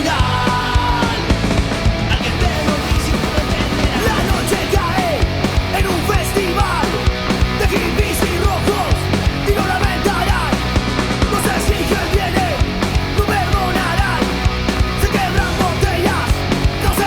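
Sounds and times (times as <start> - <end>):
drums keeping a beat: 0.0 - 17.0
punk rock song: 0.0 - 17.0.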